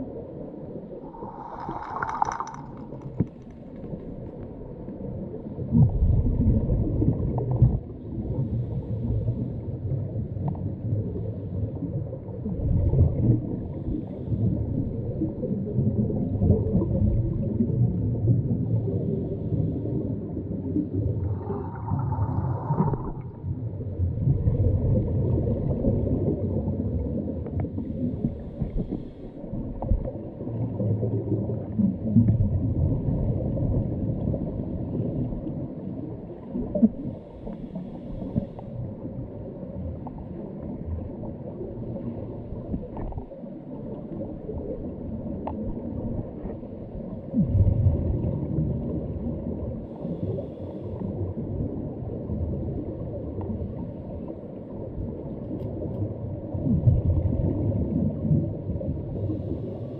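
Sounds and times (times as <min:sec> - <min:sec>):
gurgling regulator bubbles: 0:00.0 - 0:59.9
muffled underwater rumble: 0:00.0 - 0:59.9.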